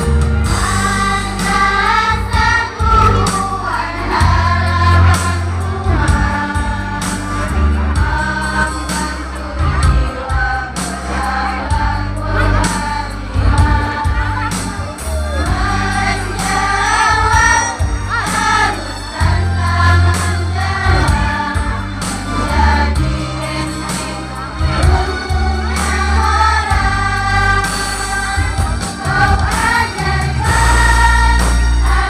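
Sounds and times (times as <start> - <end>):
choir singing in unison: 0.0 - 32.0
instrumental backing with beat and bass: 0.0 - 32.0.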